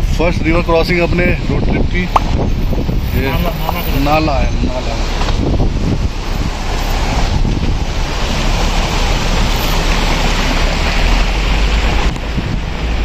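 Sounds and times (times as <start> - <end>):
wind rumbling on microphone: 0.0 - 13.0
stream rushing over rocks: 2.0 - 13.0.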